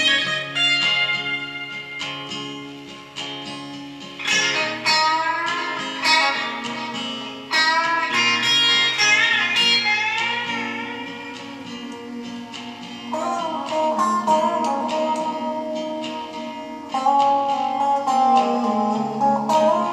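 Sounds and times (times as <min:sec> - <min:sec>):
acoustic guitar chords: 0:00.0 - 0:19.9
electric guitar lead with bent notes: 0:00.0 - 0:19.9.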